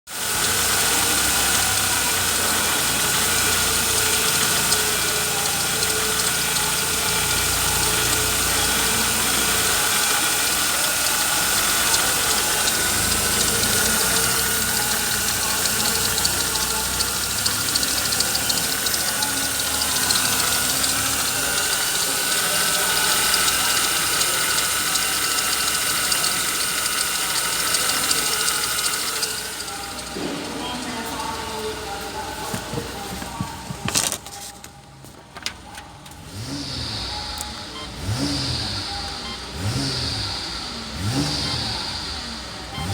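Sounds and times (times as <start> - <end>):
car engine idling: 0.0 - 34.3, 35.3 - 42.9.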